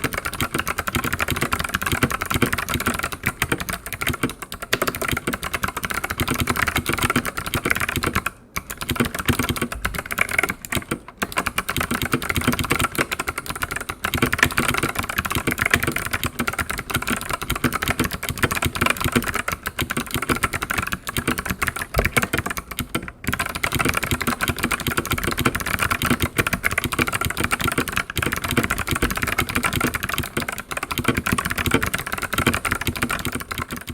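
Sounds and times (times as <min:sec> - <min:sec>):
clicky keyboard typing: 0:00.0 - 0:33.9.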